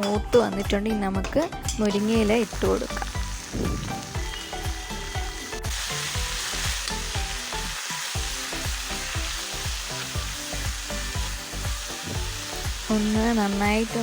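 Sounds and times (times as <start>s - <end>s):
oil sizzling in a wok: 1.6s - 14.0s.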